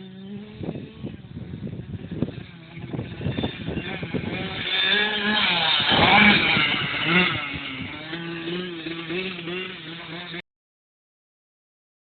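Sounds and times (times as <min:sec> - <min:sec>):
dirt bike engine revving: 0:00.0 - 0:10.4.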